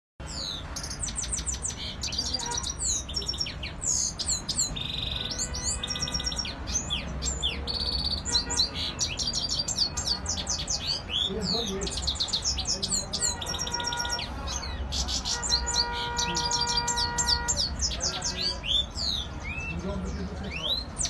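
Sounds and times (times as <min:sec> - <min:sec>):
finches singing: 0:00.2 - 0:21.0.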